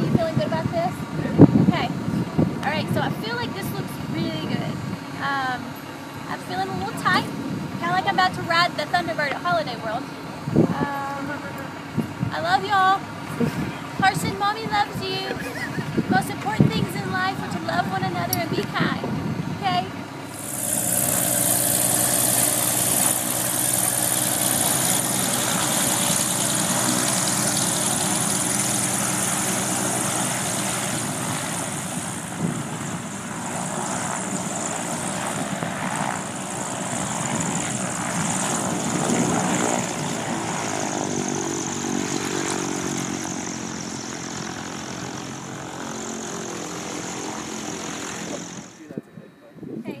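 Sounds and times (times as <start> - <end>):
propeller plane engine running: 0.0 - 50.0.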